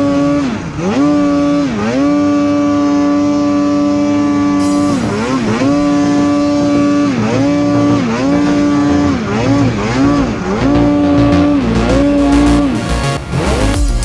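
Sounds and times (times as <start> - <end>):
snowmobile engine at high revs: 0.0 - 14.0.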